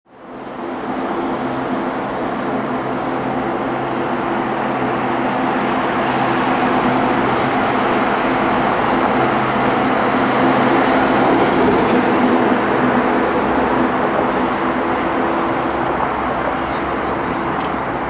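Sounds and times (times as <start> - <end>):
jet engines droning: 0.1 - 18.0.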